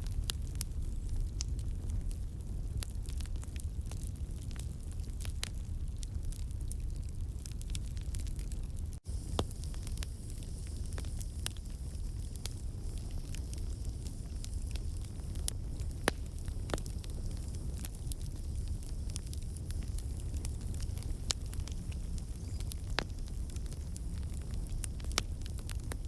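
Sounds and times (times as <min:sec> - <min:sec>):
campfire flame rumble: 0:00.0 - 0:26.0
crackles and pops of burning wood: 0:00.0 - 0:26.0.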